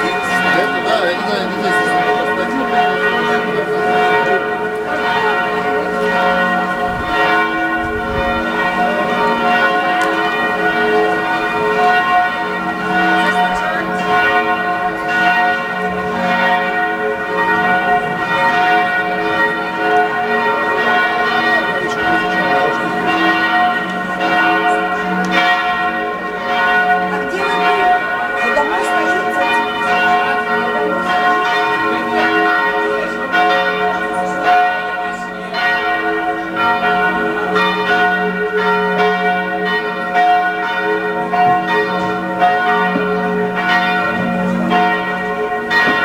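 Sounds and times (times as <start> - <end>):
church bell ringing: 0.0 - 46.0.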